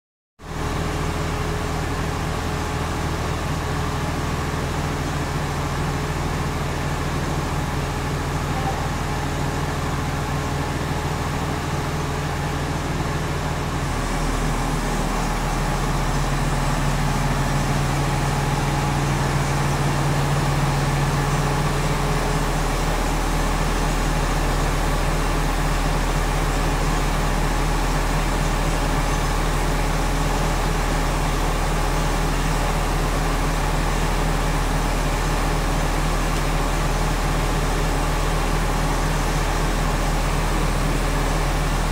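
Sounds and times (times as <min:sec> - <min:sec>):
heavy machinery drone: 0:00.5 - 0:41.9.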